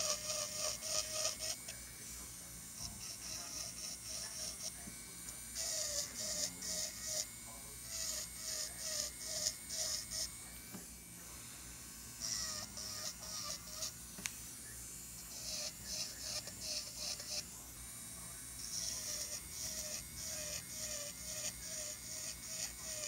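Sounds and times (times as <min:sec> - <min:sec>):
drill bit grinding skin: 0:00.0 - 0:10.8, 0:11.4 - 0:14.3, 0:14.9 - 0:23.0
electric nail drill whining: 0:00.0 - 0:23.0.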